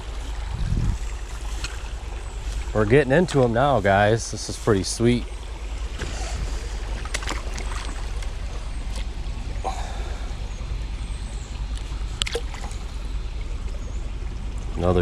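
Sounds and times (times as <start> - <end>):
creek water running: 0.0 - 15.0
low rumble: 0.0 - 15.0.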